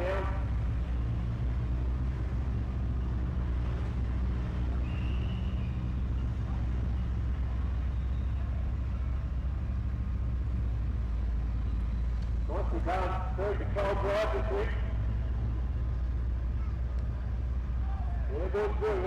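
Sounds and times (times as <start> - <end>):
truck engine low rumble: 0.0 - 19.0.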